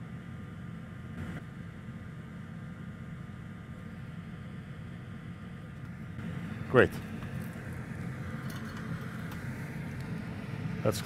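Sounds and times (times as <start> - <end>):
bench equipment hum and hiss: 0.0 - 11.0.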